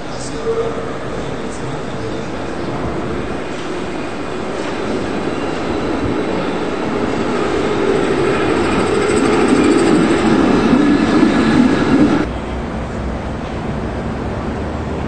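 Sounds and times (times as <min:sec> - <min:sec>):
tram rumbling past on rails: 0:00.0 - 0:15.0.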